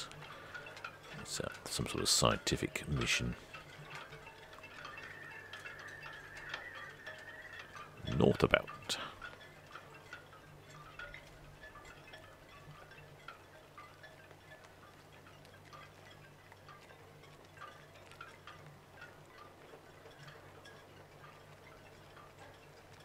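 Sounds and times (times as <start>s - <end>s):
light ringing clinks: 0.0s - 23.0s
low steady hum: 0.0s - 23.0s.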